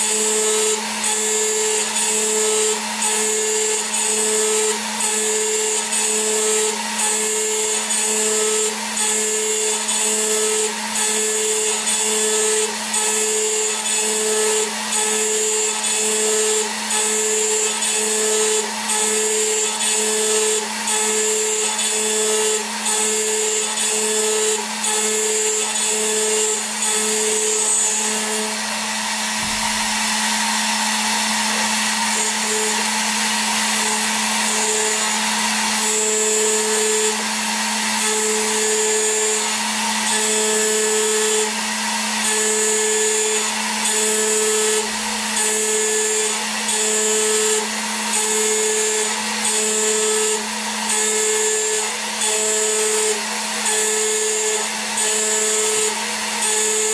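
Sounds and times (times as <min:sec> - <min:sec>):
metal cutting noise with high whine: 0:00.0 - 0:56.9
milling machine spindle hum: 0:00.0 - 0:56.9.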